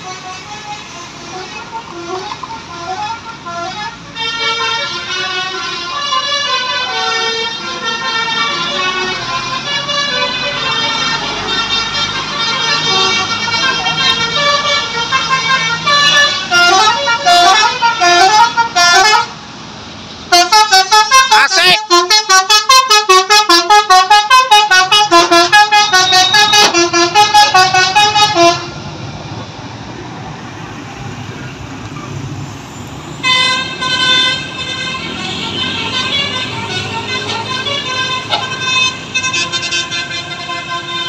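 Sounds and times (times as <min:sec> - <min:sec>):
bus horn playing a melody: 0:00.0 - 0:19.4, 0:20.3 - 0:28.8, 0:33.2 - 0:41.0
passing road traffic: 0:00.0 - 0:41.0
vehicle engine: 0:00.0 - 0:41.0.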